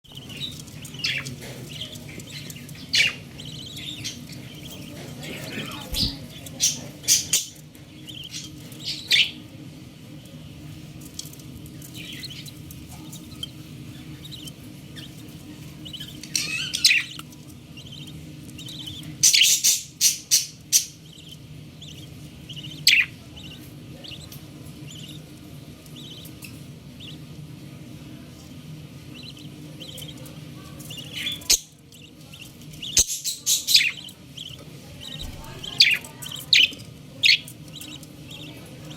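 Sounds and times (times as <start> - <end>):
budgerigar chirping: 0.1 - 9.4, 11.9 - 25.3, 25.9 - 27.3, 29.0 - 38.9.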